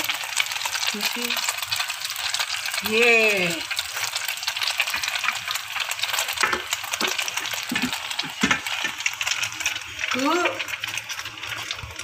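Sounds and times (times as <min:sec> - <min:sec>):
oil sizzling in frying pan: 0:00.0 - 0:12.0.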